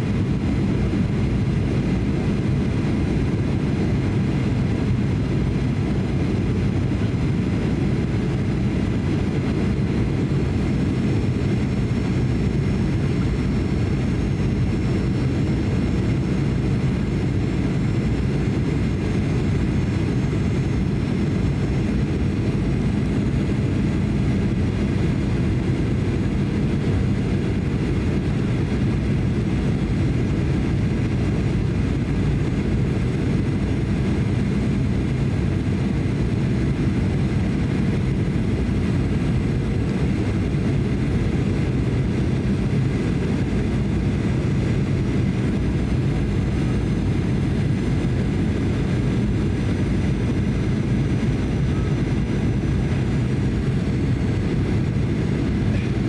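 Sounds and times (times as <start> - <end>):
airliner engine drone: 0.0 - 56.0.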